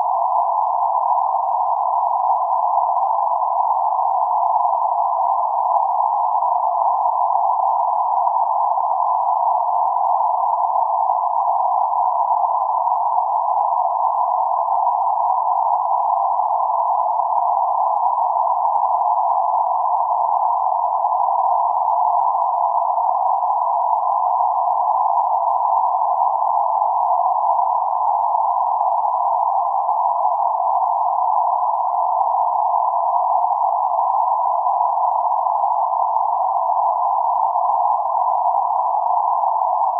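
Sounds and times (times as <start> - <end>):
steady mid-pitched filtered noise: 0.0 - 39.9.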